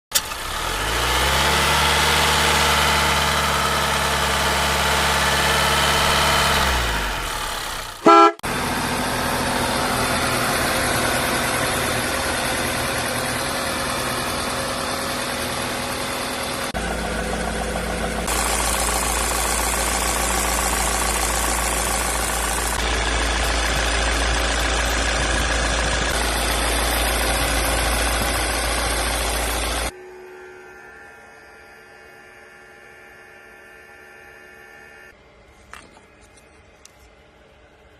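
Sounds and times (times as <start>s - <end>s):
car engine running: 0.1s - 35.1s.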